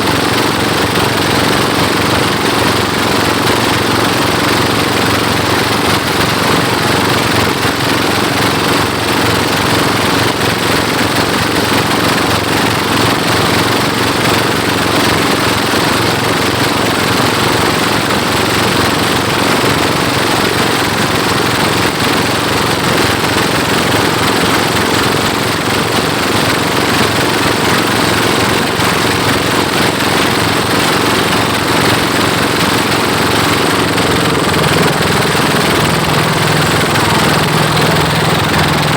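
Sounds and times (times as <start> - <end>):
boat engines racing: 0.0 - 38.9.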